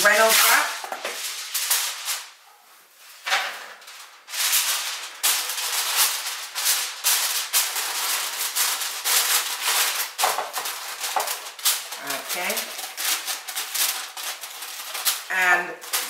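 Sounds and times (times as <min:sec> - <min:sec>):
aluminum foil crinkling: 0:00.0 - 0:02.4, 0:03.1 - 0:16.0.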